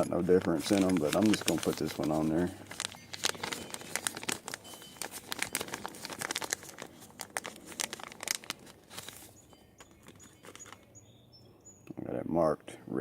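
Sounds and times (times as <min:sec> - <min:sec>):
crinkling: 0:00.0 - 0:11.1.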